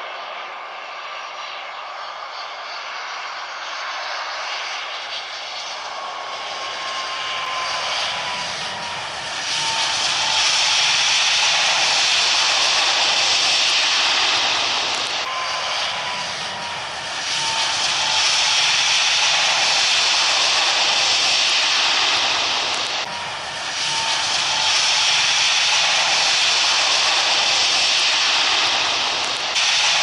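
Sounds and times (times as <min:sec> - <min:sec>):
faint engine whine: 0:00.0 - 0:30.0
jet engines roaring: 0:00.0 - 0:30.0.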